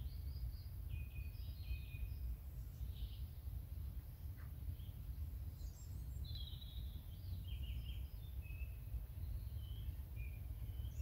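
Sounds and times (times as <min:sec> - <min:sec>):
low background rumble: 0:00.0 - 0:11.0
songbirds chirping: 0:00.0 - 0:11.0.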